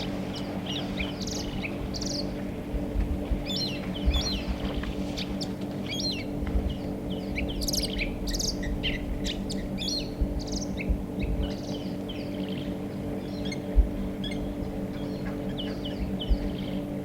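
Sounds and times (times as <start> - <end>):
birds chirping and calling: 0.0 - 17.0
steady low hum: 0.0 - 17.0.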